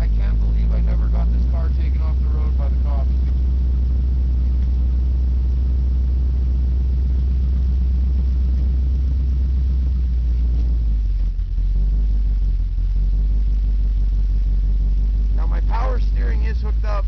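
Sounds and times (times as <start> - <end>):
engine deep rumble: 0.0 - 17.0.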